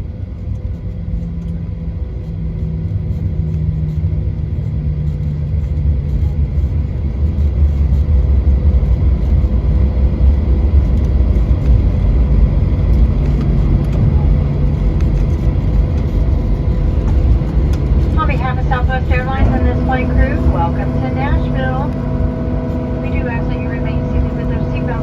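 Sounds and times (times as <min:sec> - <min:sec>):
aircraft engines and rolling wheels: 0:00.0 - 0:25.0
steady cabin hum: 0:01.8 - 0:25.0.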